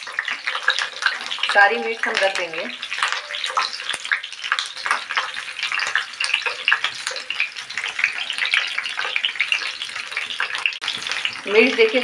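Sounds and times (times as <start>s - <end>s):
chillies sizzling in oil: 0.0s - 12.0s.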